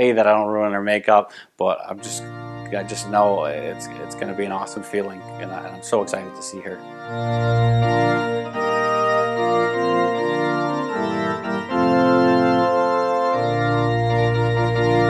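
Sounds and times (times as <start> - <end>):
organ playing slow chords: 1.3 - 15.0.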